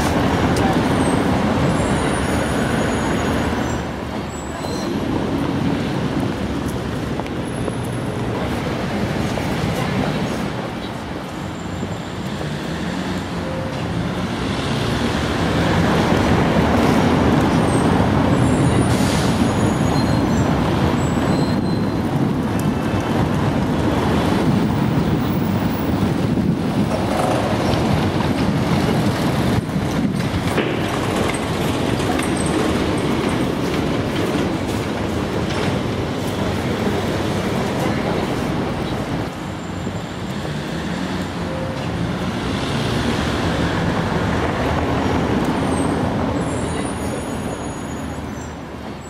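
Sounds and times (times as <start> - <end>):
street traffic rumble: 0.0 - 49.0.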